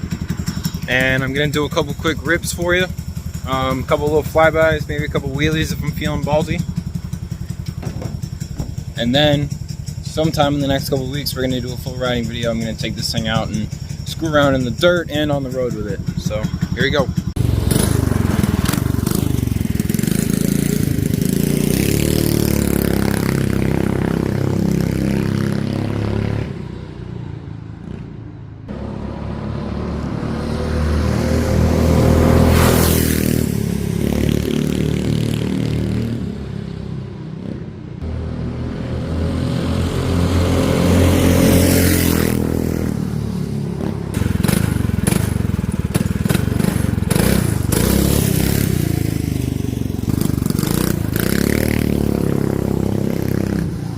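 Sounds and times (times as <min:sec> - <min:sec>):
minibike engine revving: 0:00.0 - 0:53.9.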